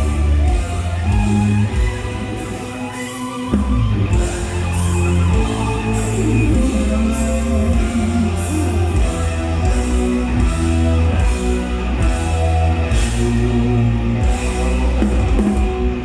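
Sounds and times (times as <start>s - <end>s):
bass notes: 0.0s - 2.6s, 3.5s - 16.0s
drums with cymbals: 0.0s - 16.0s
electric guitar: 0.0s - 16.0s.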